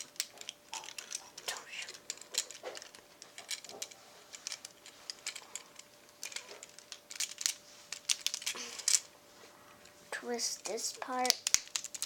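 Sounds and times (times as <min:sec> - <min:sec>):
plastic toy parts clicking: 0:00.0 - 0:09.1, 0:10.7 - 0:12.0.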